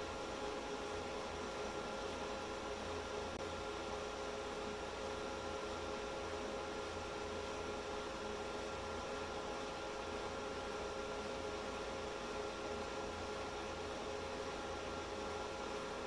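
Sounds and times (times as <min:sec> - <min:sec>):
server cooling fans whirring: 0:00.0 - 0:16.0.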